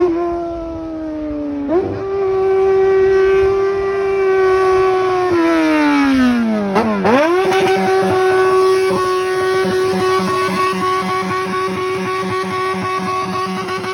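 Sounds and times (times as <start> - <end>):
motorcycle engine revving: 1.6 - 13.9.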